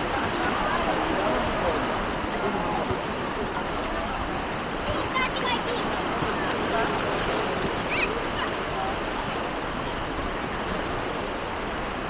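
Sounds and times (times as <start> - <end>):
surf washing: 0.0 - 12.0.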